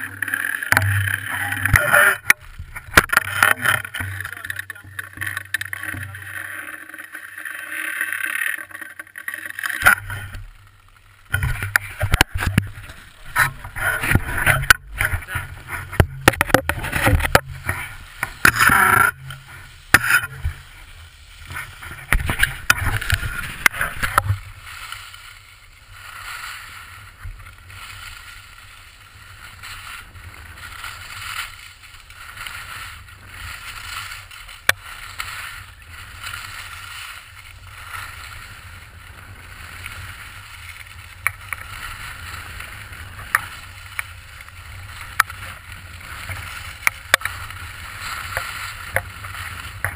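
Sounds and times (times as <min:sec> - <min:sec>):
ski edges scraping on snow: 0:00.0 - 0:49.9.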